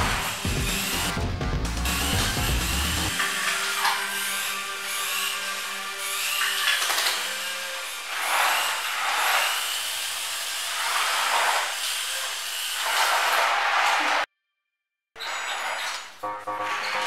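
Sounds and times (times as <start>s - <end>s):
toy electric motors whirring: 1.9s - 14.3s, 15.2s - 17.0s.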